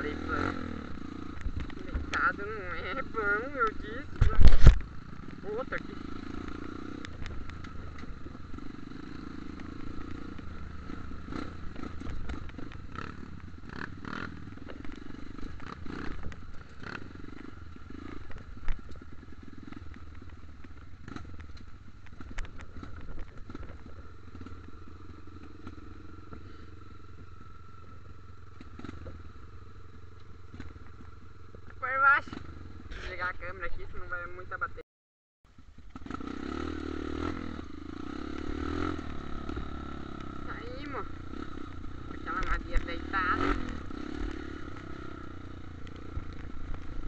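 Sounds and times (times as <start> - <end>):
dirt bike engine running: 0.0 - 34.8, 35.5 - 47.0.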